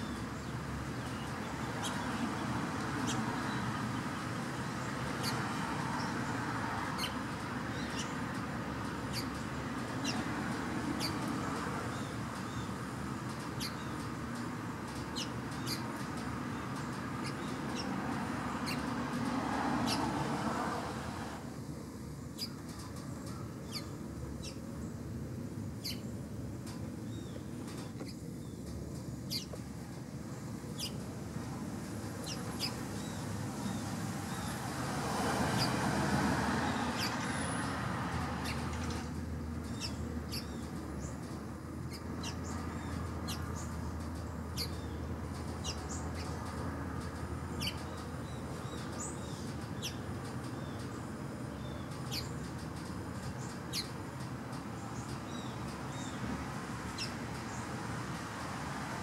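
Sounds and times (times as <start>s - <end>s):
birds chirping high: 0.0s - 21.4s, 22.2s - 25.2s, 25.8s - 58.0s.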